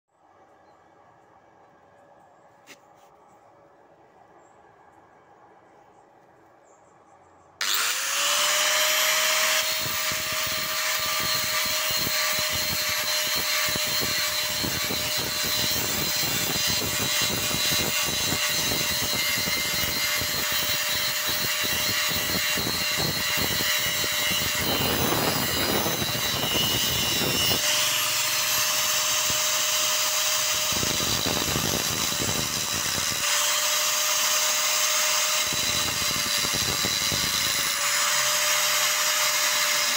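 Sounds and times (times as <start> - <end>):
angle grinder motor whine: 7.6 - 39.9
grinder scraping steel plate: 7.6 - 39.9.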